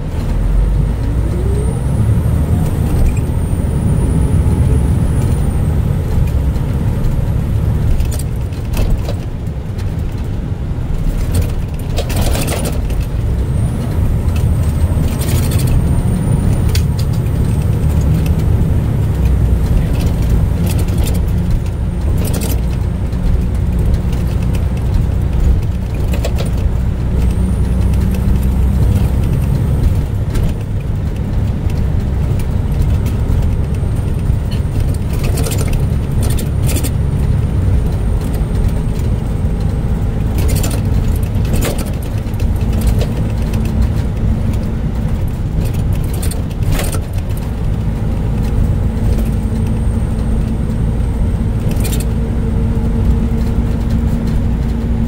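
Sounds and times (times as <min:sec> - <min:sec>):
car engine droning: 0:00.0 - 0:55.0
rattles and clicks: 0:00.0 - 0:55.0.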